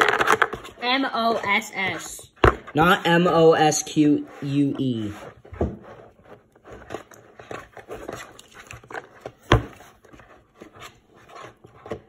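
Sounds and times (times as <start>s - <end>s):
scraping and tapping on plastic: 0.0s - 2.8s, 4.8s - 12.0s.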